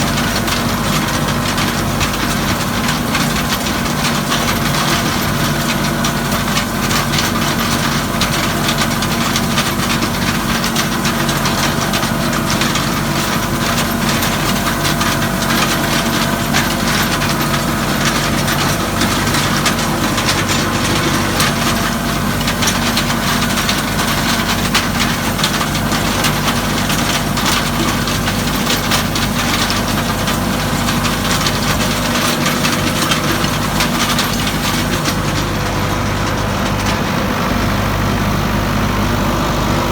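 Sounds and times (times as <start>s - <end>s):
crackling rattle of hay machinery: 0.0s - 39.9s
tractor engine running steadily: 0.0s - 39.9s.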